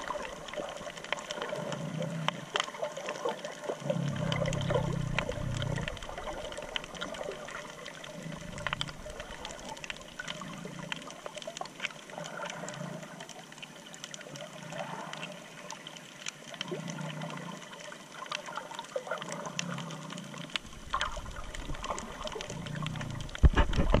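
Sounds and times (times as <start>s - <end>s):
underwater crackling clicks: 0.0s - 24.0s
underwater sloshing hiss: 0.0s - 24.0s.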